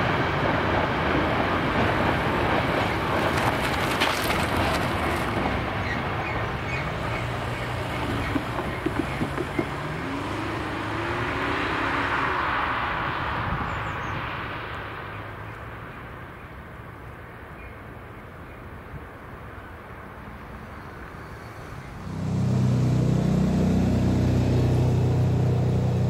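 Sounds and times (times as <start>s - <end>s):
car engine passing: 0.0s - 16.4s, 20.7s - 26.0s
distant freight train rumbling: 0.0s - 26.0s.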